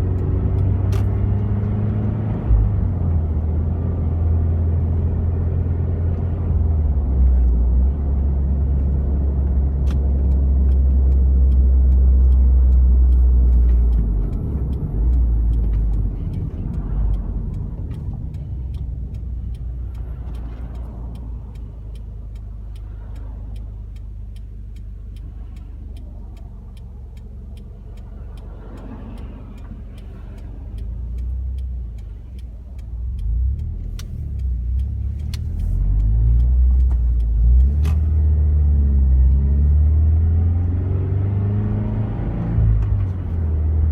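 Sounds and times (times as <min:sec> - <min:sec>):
car exhaust drone: 0:00.0 - 0:43.9
light even ticking: 0:00.0 - 0:43.9.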